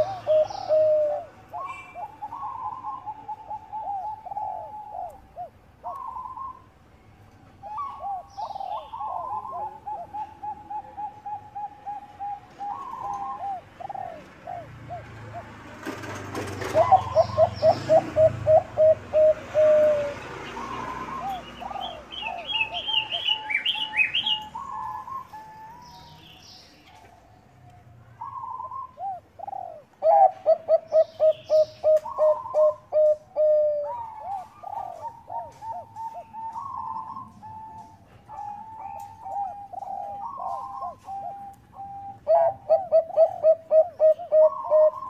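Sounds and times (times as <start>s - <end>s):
dove cooing: 0.0s - 6.8s, 7.5s - 27.4s, 28.2s - 45.0s
bird chirping: 0.0s - 15.6s, 16.6s - 45.0s.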